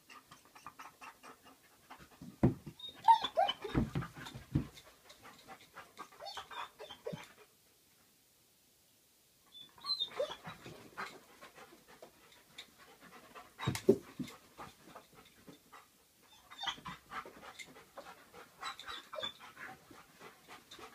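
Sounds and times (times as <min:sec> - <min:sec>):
dog panting: 0:00.1 - 0:07.5, 0:10.0 - 0:20.9.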